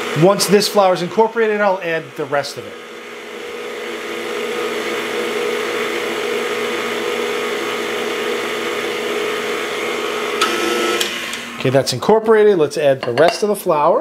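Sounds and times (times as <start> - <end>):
stand mixer motor humming: 0.0 - 11.6.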